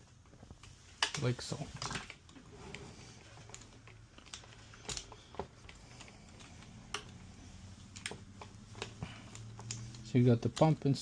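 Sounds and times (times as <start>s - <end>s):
plastic parts clicking and tapping: 0.2s - 2.4s, 3.2s - 11.0s.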